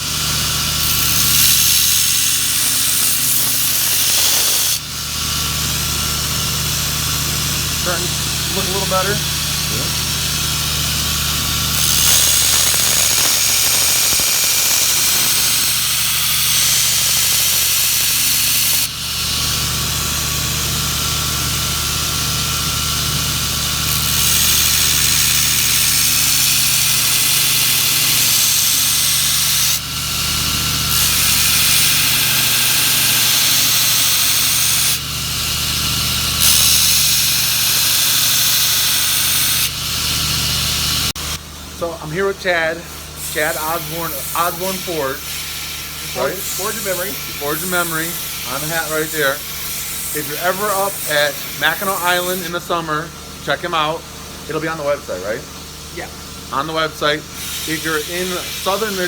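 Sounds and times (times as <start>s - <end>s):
blade grinding hiss: 0.0s - 41.3s, 42.8s - 53.0s, 56.6s - 59.0s
knife grinder motor hum: 0.0s - 41.8s, 42.9s - 53.4s, 55.7s - 59.0s.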